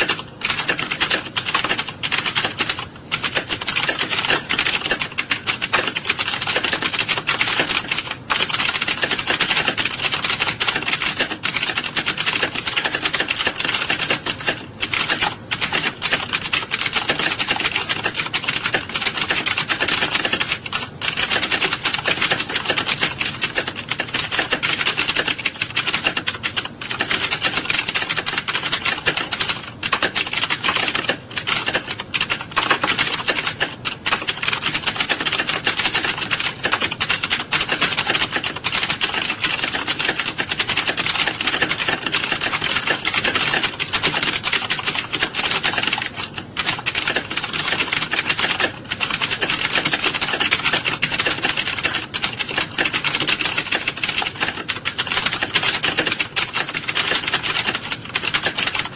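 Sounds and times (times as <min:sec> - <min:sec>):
many keyboards clattering: 0:00.0 - 0:58.9.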